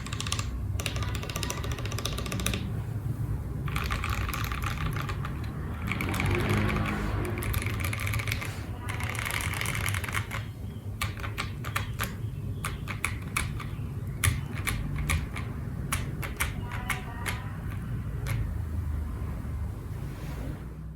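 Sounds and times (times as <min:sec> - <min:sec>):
mechanical keyboard typing: 0:00.0 - 0:02.8, 0:03.6 - 0:18.8.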